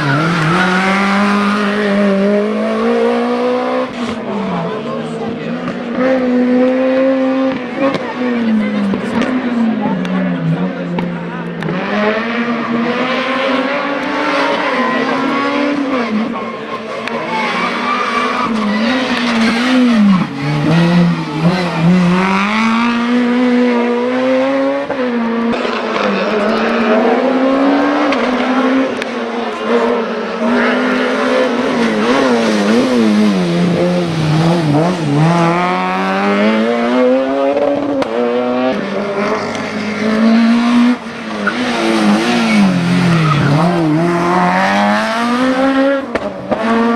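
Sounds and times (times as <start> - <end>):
race car engine at full throttle: 0.0 - 46.9.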